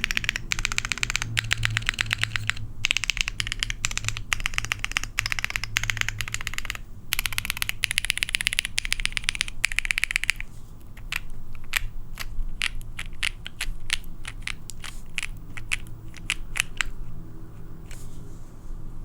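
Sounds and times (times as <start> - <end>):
mechanical keyboard typing: 0.0 - 17.2.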